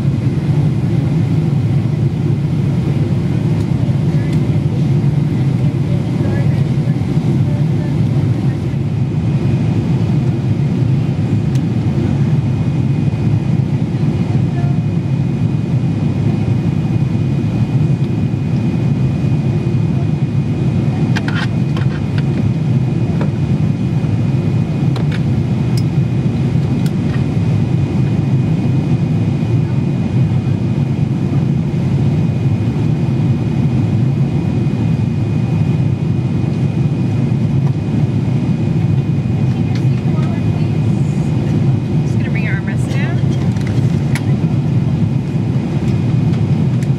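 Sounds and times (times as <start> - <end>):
aircraft engines roaring: 0.0 - 46.9.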